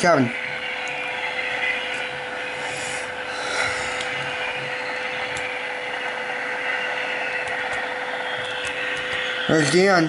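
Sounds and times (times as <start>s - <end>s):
train wheels rushing on rails: 1.9s - 10.0s.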